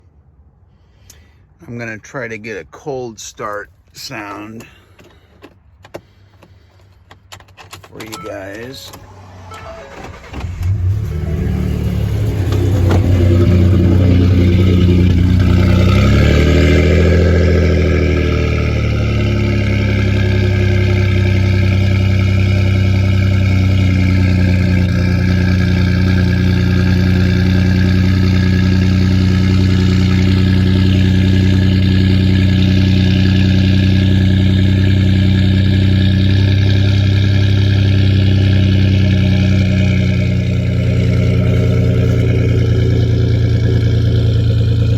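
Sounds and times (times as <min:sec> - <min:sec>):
truck engine starting and idling: 0:00.0 - 0:44.9.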